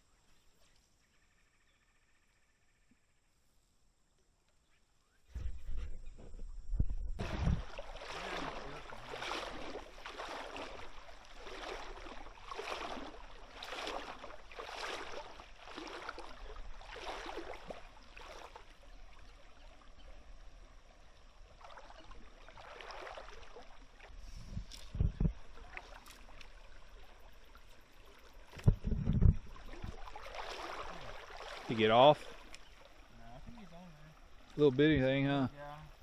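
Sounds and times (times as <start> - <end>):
paddle splashing in water: 7.2 - 36.0.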